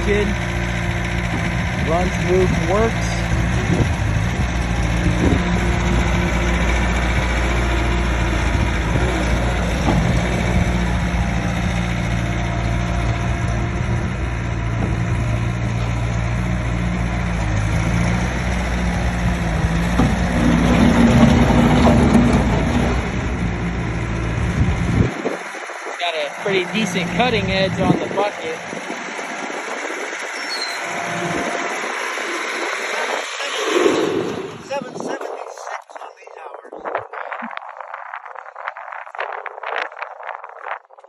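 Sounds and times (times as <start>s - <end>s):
diesel engine running: 0.0s - 35.1s.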